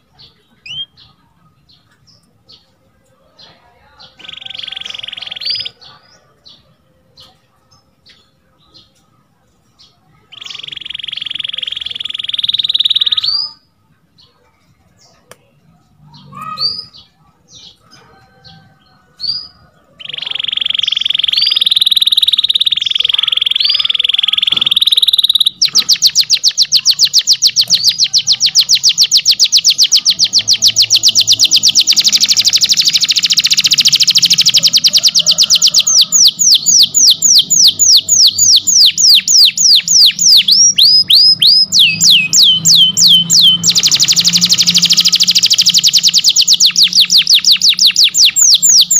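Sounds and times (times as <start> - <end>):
canary singing: 0.0 - 48.9.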